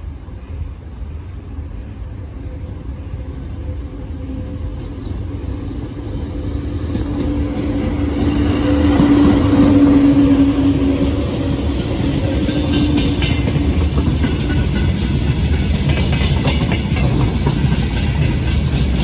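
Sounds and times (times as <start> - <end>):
electric locomotives passing: 0.0 - 19.0.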